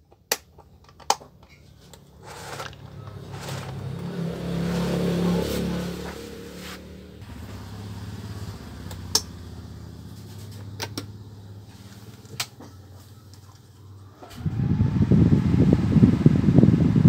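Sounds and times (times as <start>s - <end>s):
desk fan winding down: 2.2s - 17.0s.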